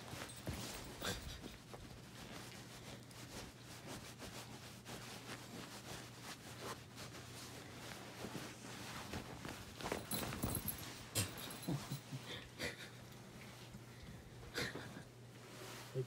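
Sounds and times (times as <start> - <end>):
rustling and scratching: 0.0 - 12.4, 14.8 - 16.0
low steady hum: 0.0 - 16.0.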